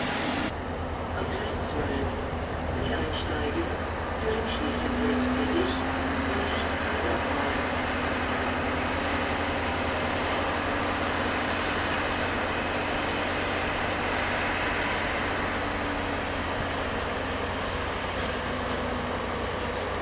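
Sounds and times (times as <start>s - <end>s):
diesel train engine droning: 0.0s - 20.0s.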